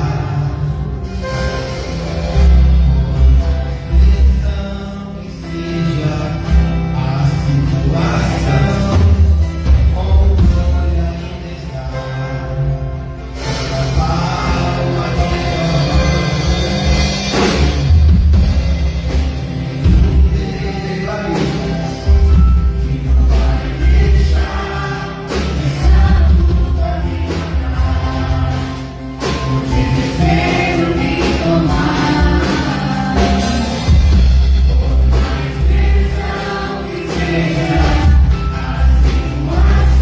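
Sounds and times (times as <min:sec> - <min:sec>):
group singing together: 0:00.0 - 0:12.8, 0:13.4 - 0:40.0
drum kit: 0:00.0 - 0:40.0
guitar with heavy bass: 0:00.0 - 0:40.0.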